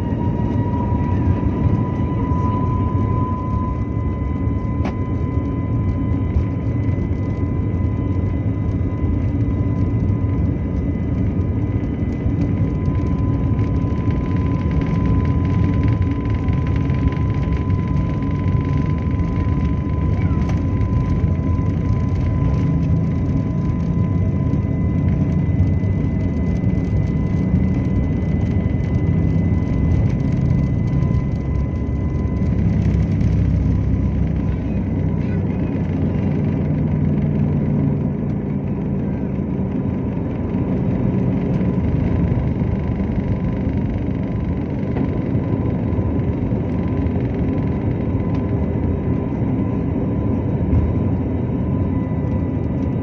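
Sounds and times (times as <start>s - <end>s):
aircraft cabin low rumble: 0.0s - 53.0s.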